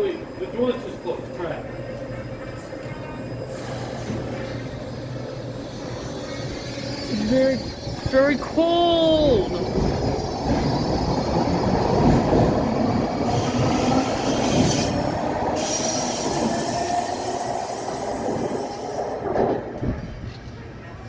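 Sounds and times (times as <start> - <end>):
train wheels rushing on rails: 3.6 - 21.0.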